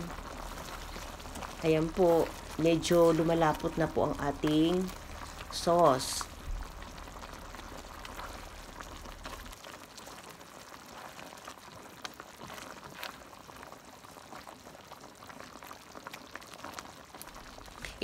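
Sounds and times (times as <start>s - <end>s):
curry sauce bubbling and popping: 0.0s - 18.0s.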